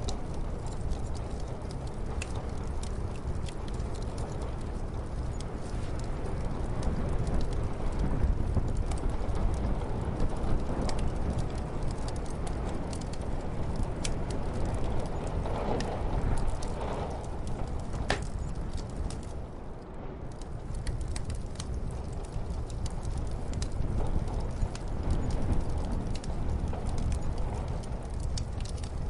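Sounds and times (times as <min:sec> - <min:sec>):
muffled snowstorm wind: 0:00.0 - 0:29.0
wood fire crackling: 0:00.0 - 0:29.0.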